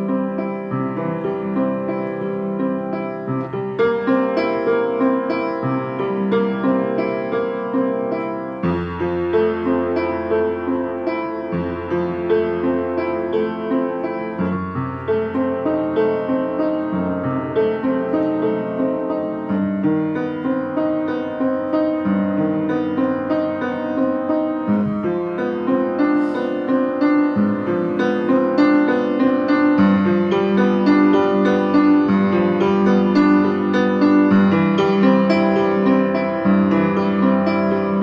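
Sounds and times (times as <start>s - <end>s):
solo piano melody: 0.0s - 38.0s.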